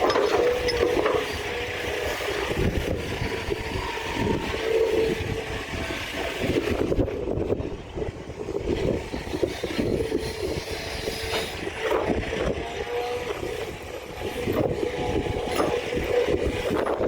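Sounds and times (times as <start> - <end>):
excavator diesel engine: 0.0 - 17.0
hydraulic whine: 0.0 - 17.0.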